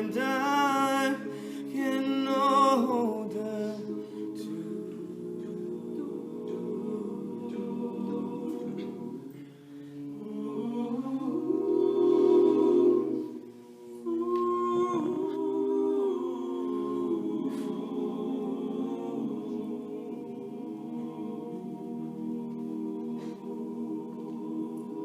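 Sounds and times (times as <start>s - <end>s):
male a cappella group singing: 0.0s - 25.0s.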